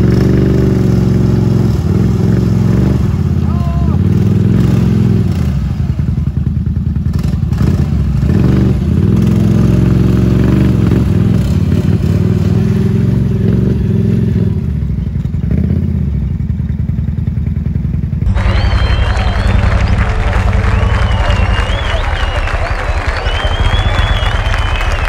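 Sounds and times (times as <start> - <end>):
quad bike engine revving: 0.0 - 24.8.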